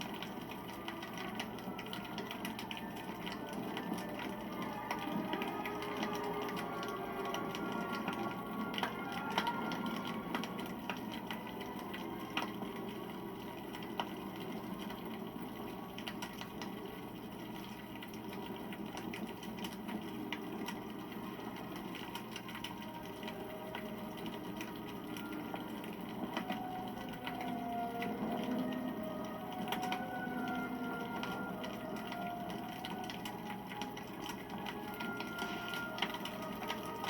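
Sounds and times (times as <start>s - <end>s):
campfire flames rushing: 0.0s - 37.0s
fire crackles and pops: 0.0s - 37.0s.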